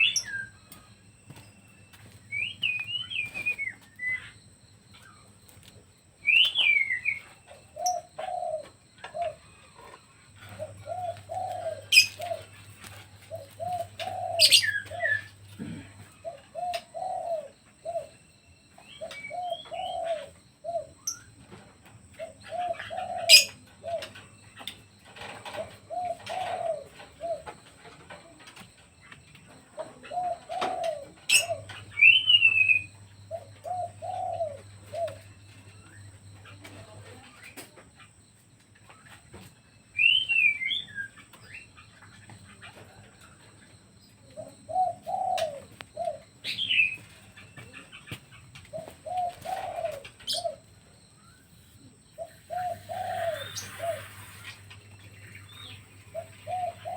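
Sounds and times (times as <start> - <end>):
doves cooing: 0.0 - 56.9
small bird chirping: 0.0 - 56.9.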